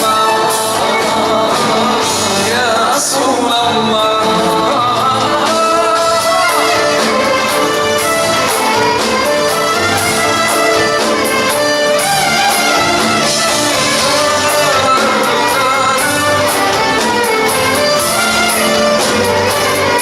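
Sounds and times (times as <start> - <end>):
instrumental music with strings and brass: 0.0 - 20.0.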